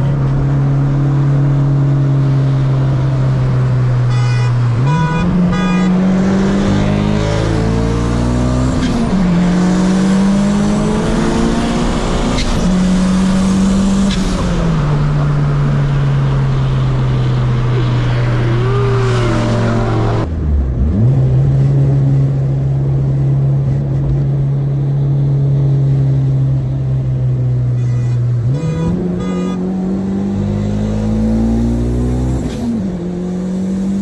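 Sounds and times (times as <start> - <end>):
car engine running hard: 0.0 - 34.0.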